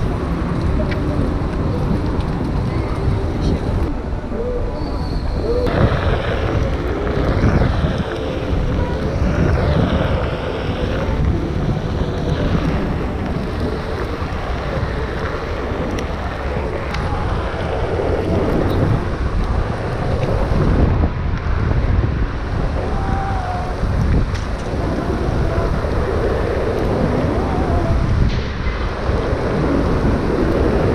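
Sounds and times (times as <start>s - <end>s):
wind buffeting the microphone: 0.0s - 30.9s.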